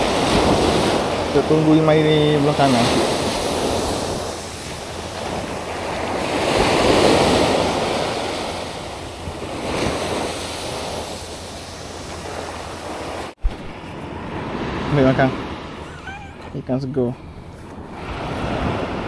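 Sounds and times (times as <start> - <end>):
wind buffeting microphone: 0.0 - 15.8, 16.4 - 19.0
surf washing against rocks: 0.0 - 19.0.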